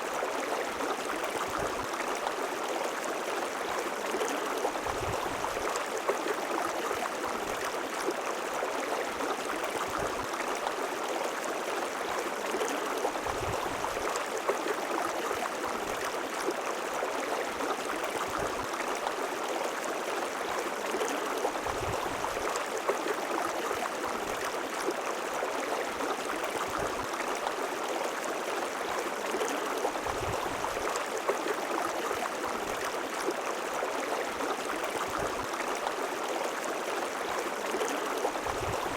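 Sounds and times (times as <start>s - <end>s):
river water rushing and gurgling: 0.0s - 38.9s.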